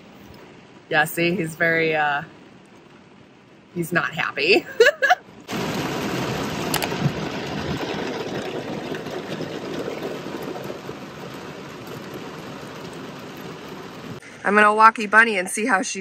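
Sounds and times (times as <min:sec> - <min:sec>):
heavy rain on car roof: 0:00.0 - 0:14.6.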